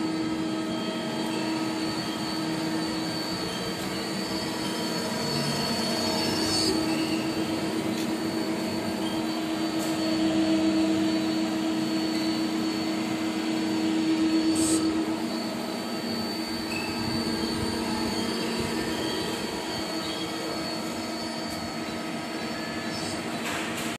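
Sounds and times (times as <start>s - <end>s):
lathe mechanical hum: 0.0s - 23.9s
thin high whine: 0.0s - 23.9s.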